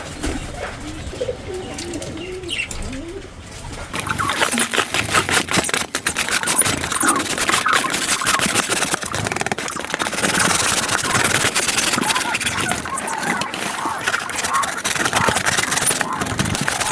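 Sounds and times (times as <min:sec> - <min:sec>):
pigeons cooing: 0:00.0 - 0:16.9
scratchy knocks and scraping: 0:02.8 - 0:16.9.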